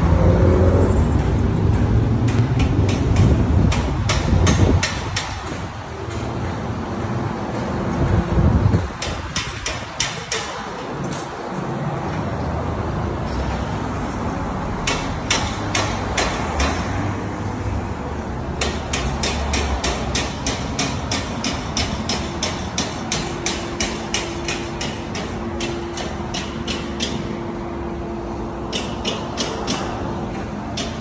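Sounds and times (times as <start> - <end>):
low rumble of street traffic: 0.0 - 31.0.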